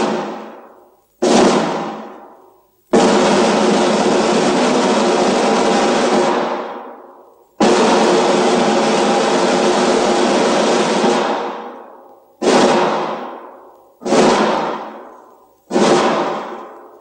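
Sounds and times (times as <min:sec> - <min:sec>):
percussion crashes ringing out: 0:00.0 - 0:02.4, 0:03.0 - 0:07.0, 0:07.6 - 0:17.0.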